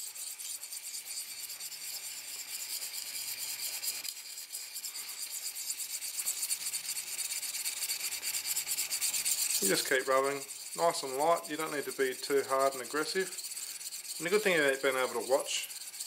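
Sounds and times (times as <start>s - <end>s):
sharpening paddle rasping on knife: 0.0s - 16.0s.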